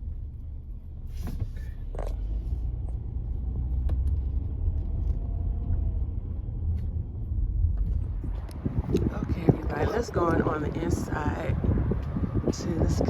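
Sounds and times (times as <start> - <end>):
car rumbling in motion: 0.0 - 13.0.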